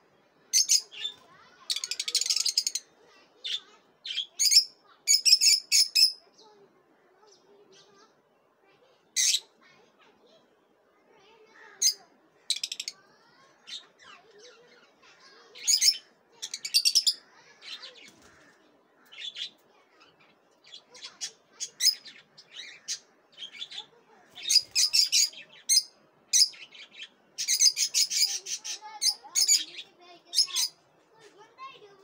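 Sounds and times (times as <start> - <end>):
lovebirds chirping: 0.0 - 9.5, 11.2 - 32.0.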